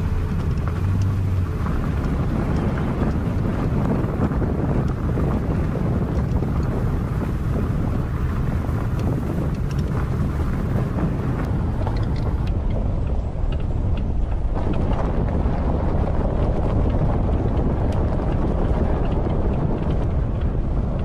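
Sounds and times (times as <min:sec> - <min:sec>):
stones ticking: 0:00.0 - 0:21.0
tyres on gravel: 0:00.0 - 0:21.0
wind buffeting microphone: 0:00.0 - 0:21.0.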